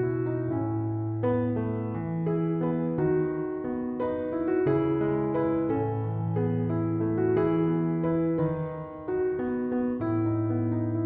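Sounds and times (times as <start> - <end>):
electric piano sustained chords: 0.0 - 11.0.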